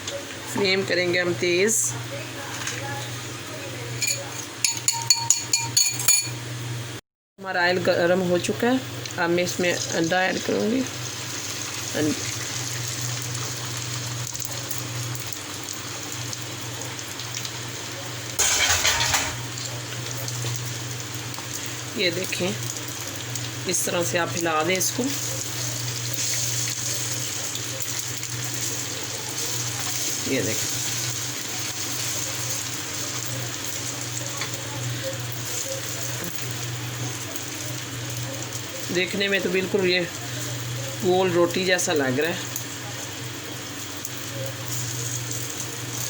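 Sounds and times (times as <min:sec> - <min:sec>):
oil sizzling: 0:08.0 - 0:46.0
egg sizzling in hot oil: 0:08.8 - 0:46.0.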